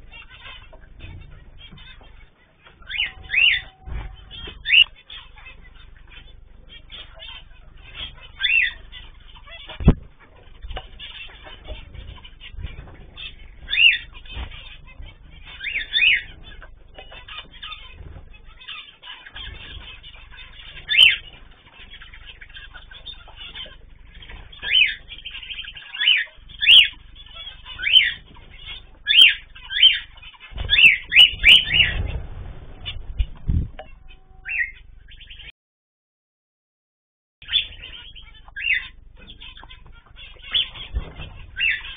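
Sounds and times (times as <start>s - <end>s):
birds calling: 0.0s - 35.5s, 37.4s - 41.9s
wings fluttering: 0.0s - 35.5s, 37.5s - 41.9s.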